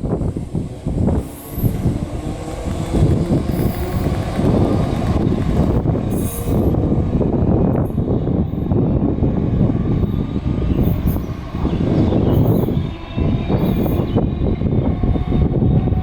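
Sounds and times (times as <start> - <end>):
electric train rumbling: 0.0 - 16.0.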